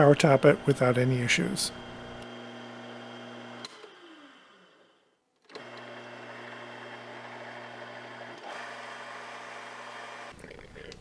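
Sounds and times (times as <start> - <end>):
lathe motor running: 0.0 - 4.9, 5.6 - 10.3.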